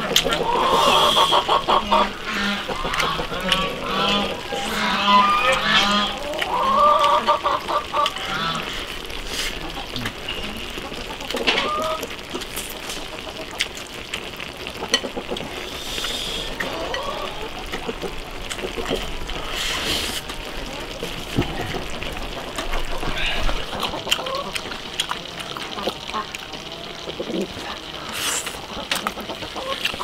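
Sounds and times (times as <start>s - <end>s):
chewing crisp food: 0.0s - 15.5s, 16.6s - 30.0s
chickens clucking: 0.0s - 30.0s
slurping: 0.0s - 30.0s.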